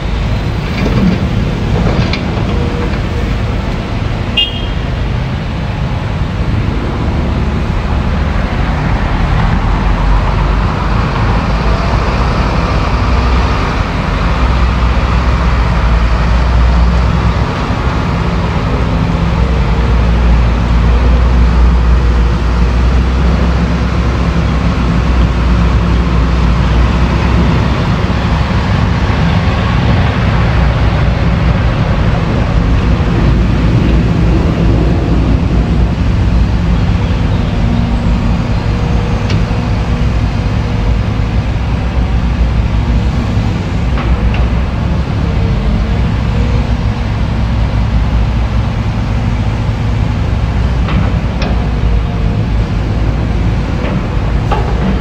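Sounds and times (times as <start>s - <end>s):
excavator diesel engine rumbling: 0.0s - 55.0s.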